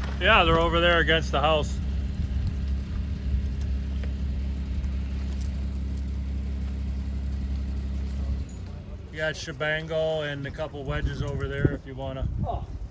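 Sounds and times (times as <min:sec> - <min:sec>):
engine humming at low speed: 0:00.0 - 0:12.9.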